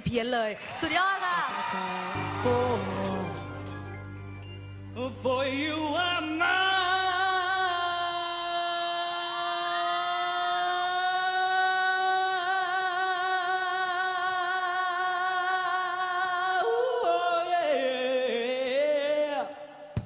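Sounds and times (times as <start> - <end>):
man singing long note: 2.2 - 3.7, 4.9 - 19.5.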